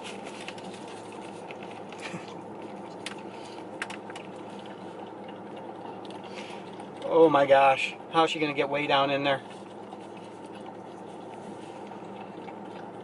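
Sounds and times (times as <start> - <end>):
steady background hum: 0.0 - 13.0
dog licking: 0.1 - 13.0.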